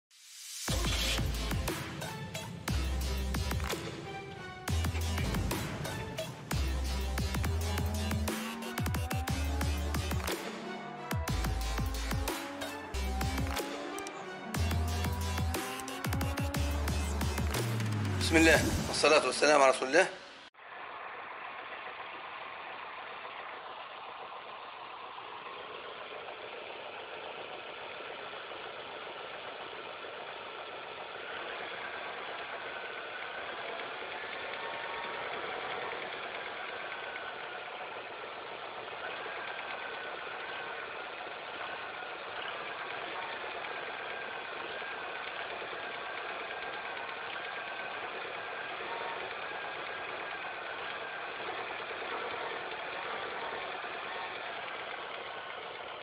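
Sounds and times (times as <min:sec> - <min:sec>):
car engine idling: 0:00.7 - 0:19.6, 0:20.3 - 0:56.0.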